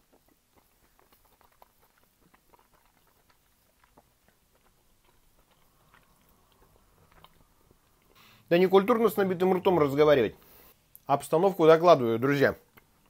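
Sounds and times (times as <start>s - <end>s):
faint chewing: 0.0s - 11.1s, 12.4s - 13.0s.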